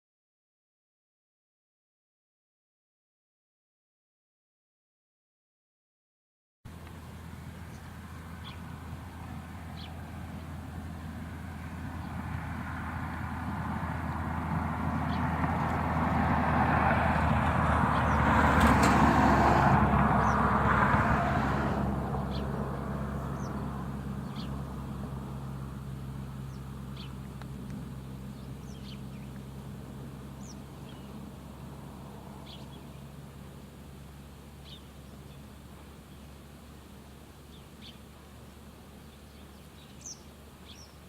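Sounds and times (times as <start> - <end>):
motor vehicle passing by: 6.7 - 41.0.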